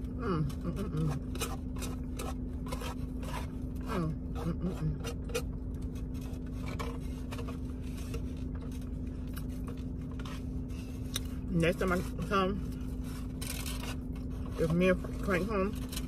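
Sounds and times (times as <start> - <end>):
chewing and handling food: 0.0 - 16.0
steady low hum: 0.0 - 16.0.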